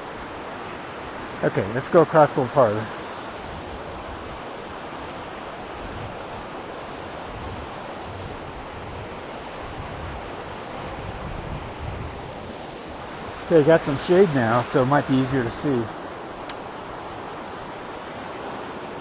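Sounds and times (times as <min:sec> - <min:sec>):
river rushing: 0:00.0 - 0:19.0
wind rumble on microphone: 0:03.2 - 0:19.0.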